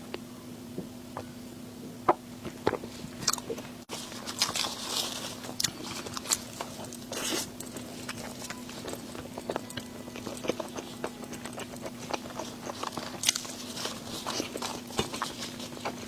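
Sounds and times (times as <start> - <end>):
steady low hum: 0.0 - 16.0
person chewing crunchy food: 2.1 - 16.0.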